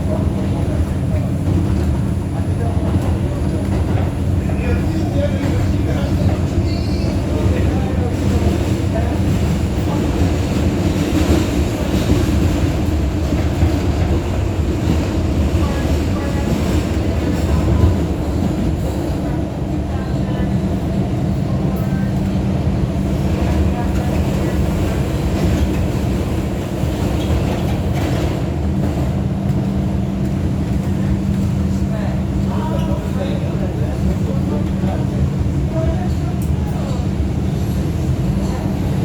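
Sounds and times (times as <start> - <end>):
subway train wheels rumbling on rails: 0.0 - 39.0.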